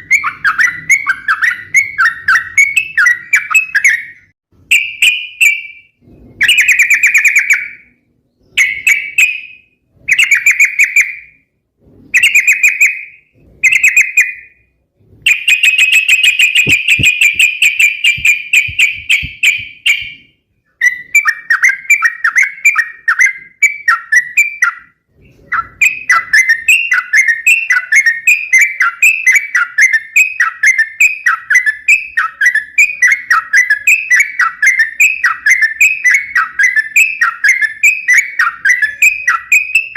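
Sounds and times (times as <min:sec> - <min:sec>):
bird singing: 0:00.0 - 0:11.5, 0:12.1 - 0:39.9.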